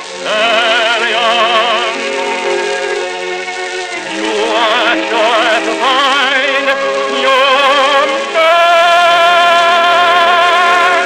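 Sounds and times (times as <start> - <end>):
old film music with vibrato melody: 0.0 - 11.0.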